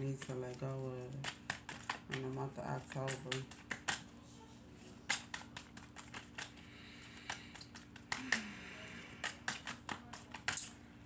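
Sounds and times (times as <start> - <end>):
cards being shuffled: 0.2 - 4.2, 4.8 - 8.5, 9.2 - 10.8.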